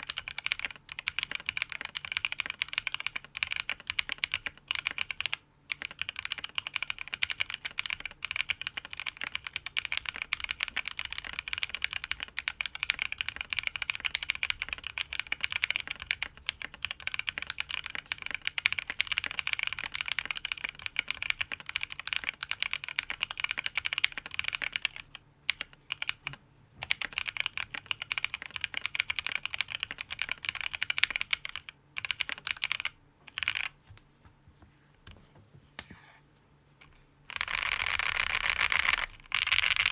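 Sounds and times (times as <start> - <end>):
mechanical keyboard typing: 0.0 - 33.8, 37.3 - 39.9.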